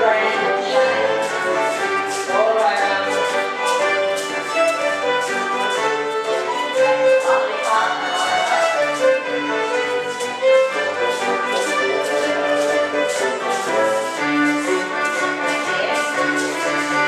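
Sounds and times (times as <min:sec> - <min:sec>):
fiddle playing dance tune: 0:00.0 - 0:17.0
live dance music with steady beat: 0:00.0 - 0:17.0.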